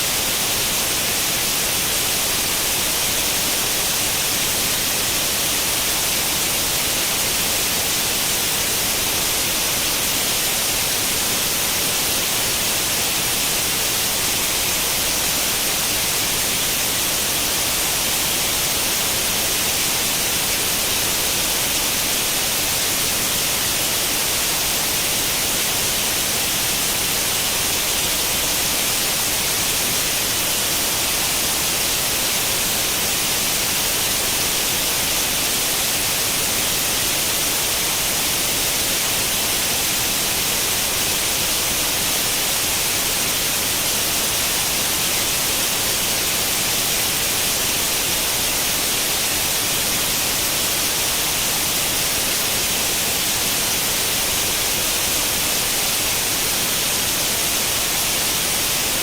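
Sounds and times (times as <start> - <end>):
television static hiss: 0.0 - 59.0.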